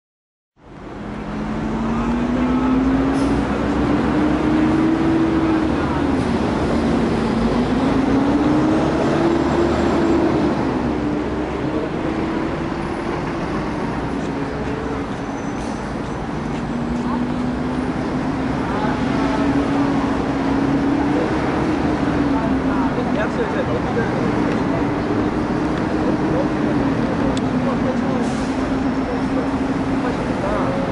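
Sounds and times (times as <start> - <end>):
bus engine accelerating: 0.6 - 30.9
road noise: 0.6 - 30.9.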